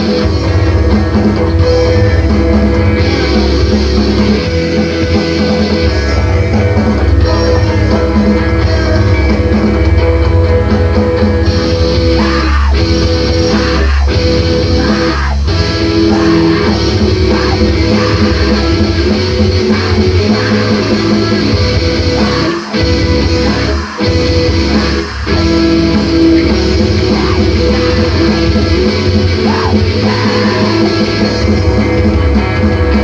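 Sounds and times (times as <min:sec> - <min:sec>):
bass guitar: 0:00.0 - 0:33.0
distorted electric guitars: 0:00.0 - 0:33.0
drums: 0:00.0 - 0:33.0.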